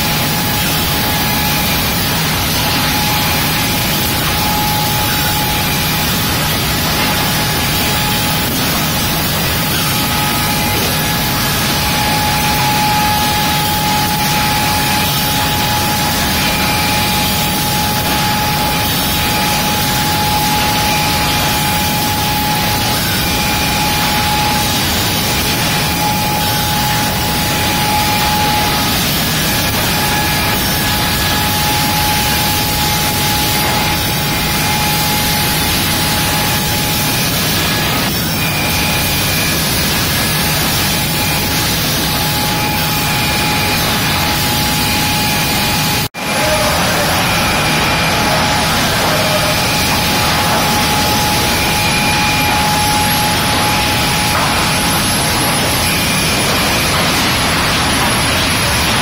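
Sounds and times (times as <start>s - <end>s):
sawmill machinery din: 0.0s - 59.0s
steady machine whine: 0.0s - 59.0s.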